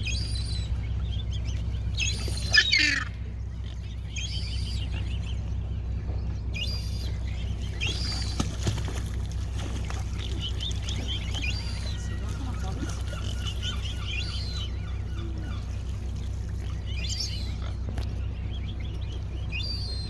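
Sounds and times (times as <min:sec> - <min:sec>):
birds calling: 0:00.0 - 0:20.0
steady low hum: 0:00.0 - 0:20.0.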